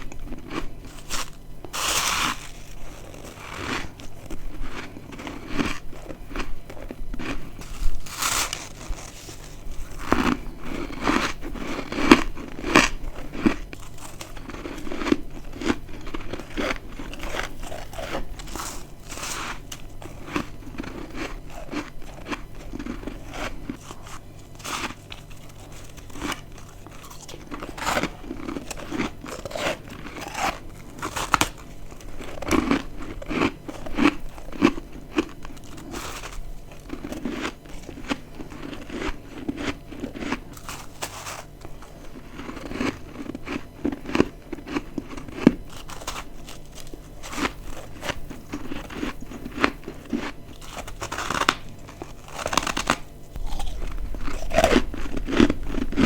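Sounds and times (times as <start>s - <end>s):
crunchy chewing of ice: 0.0s - 56.0s.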